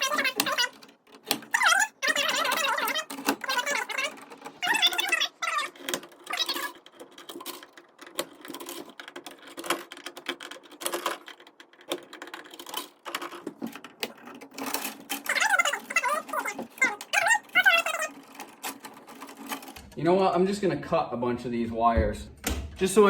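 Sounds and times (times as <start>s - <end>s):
screwdriver clicking and scraping on wires: 0.0s - 20.0s.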